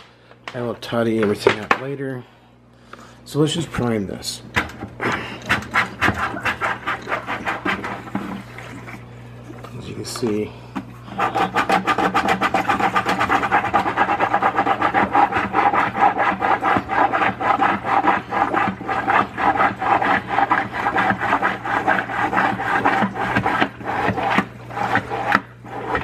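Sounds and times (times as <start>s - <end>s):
hand priming pump strokes: 4.6s - 26.0s.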